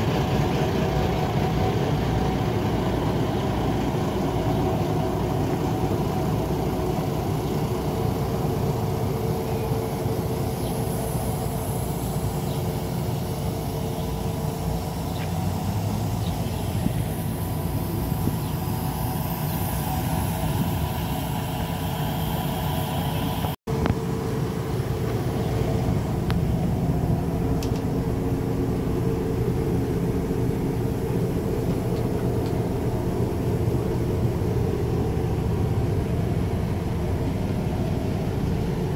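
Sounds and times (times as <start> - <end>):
diesel railbus engine idling: 0.0 - 38.9
steady hum: 0.0 - 38.9.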